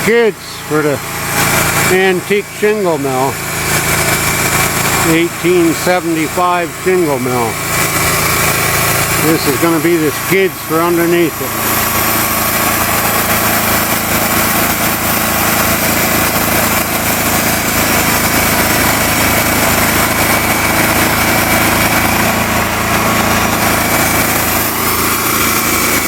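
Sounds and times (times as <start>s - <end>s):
band sawmill cutting wood: 0.0s - 26.0s.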